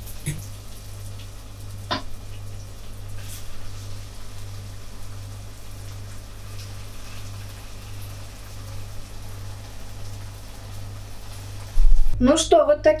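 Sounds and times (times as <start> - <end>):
food sizzling in hot oil: 0.0 - 12.2.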